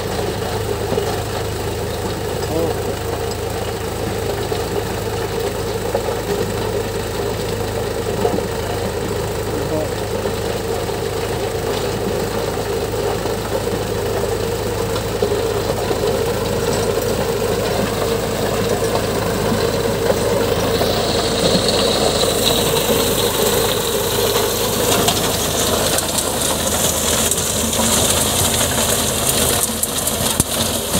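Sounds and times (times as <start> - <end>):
rotary tiller churning soil: 0.0 - 30.9
tractor diesel engine running: 0.0 - 30.9.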